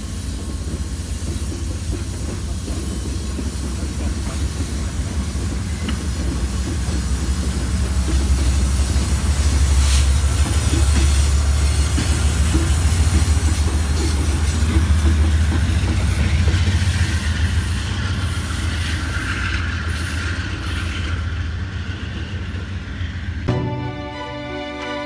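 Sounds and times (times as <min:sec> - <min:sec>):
train wheels on rails: 0:00.0 - 0:23.5
diesel locomotive engine running: 0:00.0 - 0:25.0.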